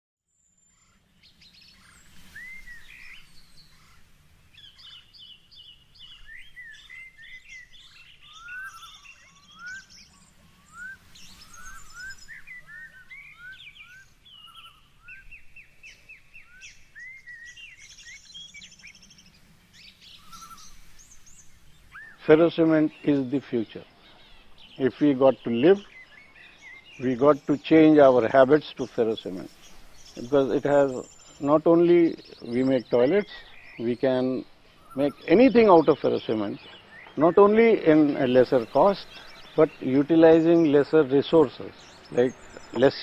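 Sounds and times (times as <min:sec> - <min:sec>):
birds singing and chirping: 0:00.3 - 0:43.0.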